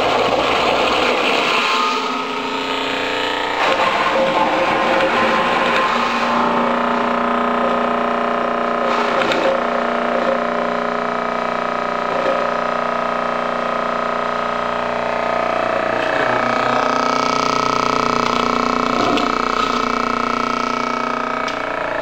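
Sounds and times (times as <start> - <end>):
stone grinder motor humming: 0.0 - 22.0.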